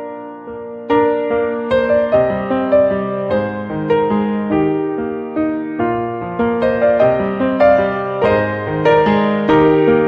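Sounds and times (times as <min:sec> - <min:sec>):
gentle piano music: 0:00.0 - 0:10.0.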